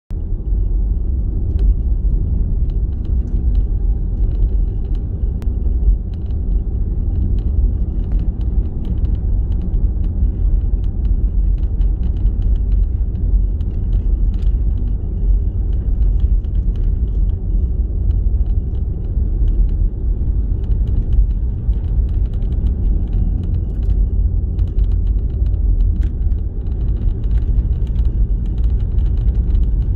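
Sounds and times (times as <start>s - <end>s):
car engine and tyre rumble: 0.1s - 29.9s.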